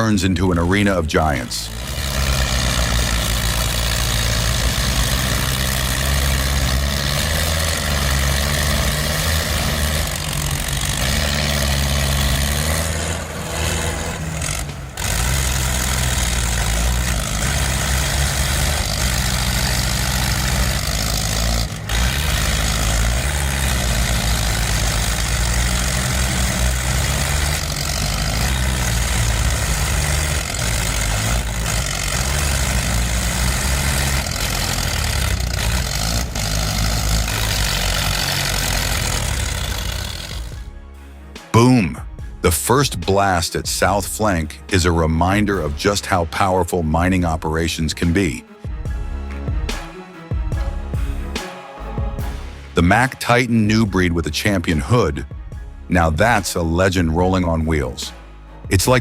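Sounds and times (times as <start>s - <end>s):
tractor diesel engines running: 0.0s - 59.0s.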